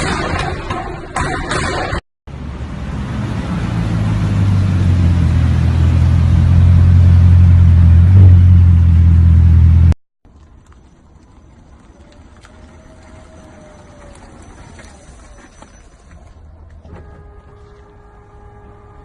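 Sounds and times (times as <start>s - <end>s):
car engine rumbling: 2.3s - 19.0s.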